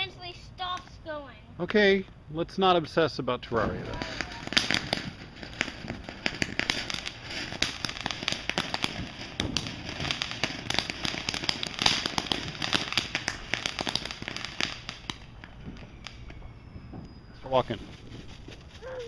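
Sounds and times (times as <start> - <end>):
firework crackling: 3.4 - 19.0
firework hiss: 3.5 - 19.0.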